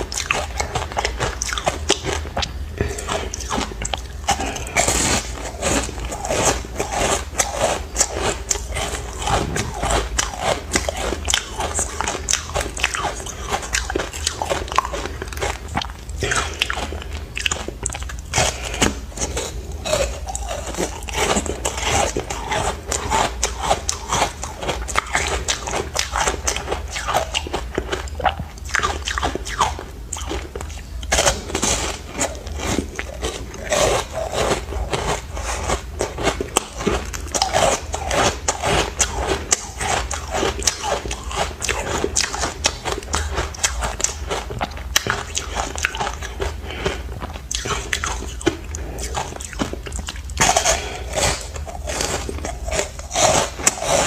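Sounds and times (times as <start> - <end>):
faint low hum: 0.0 - 54.0
person crunching ice: 2.8 - 28.1, 28.7 - 54.0.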